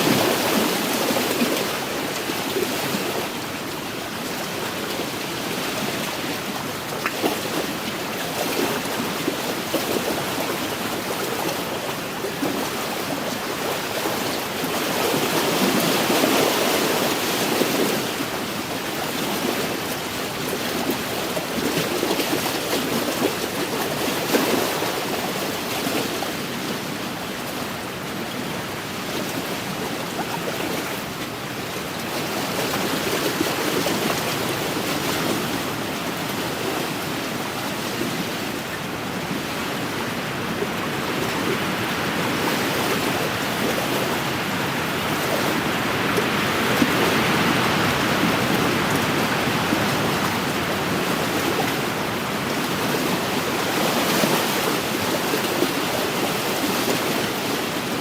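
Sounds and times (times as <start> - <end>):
waves washing against shore: 0.0 - 58.0.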